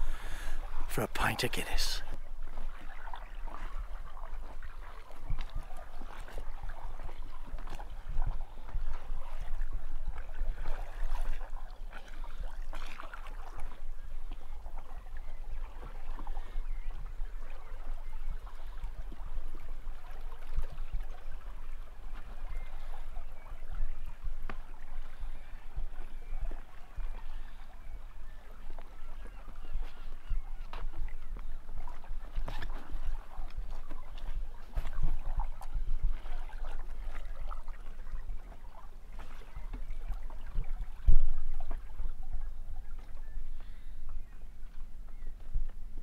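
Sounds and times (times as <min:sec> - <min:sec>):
water splashing along hull: 0:00.0 - 0:46.0.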